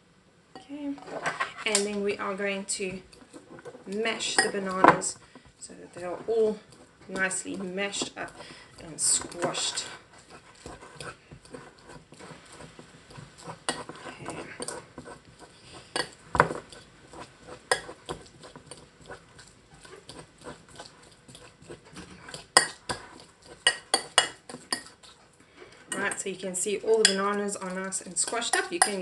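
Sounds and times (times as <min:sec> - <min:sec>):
fork mashing bananas in glass bowl: 0:01.6 - 0:29.0.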